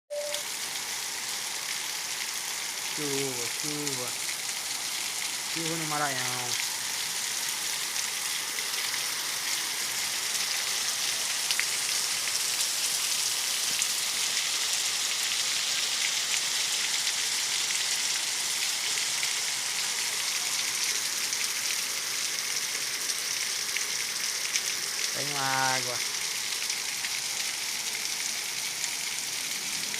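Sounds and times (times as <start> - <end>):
heavy rain on hard surfaces: 0.1 - 29.9.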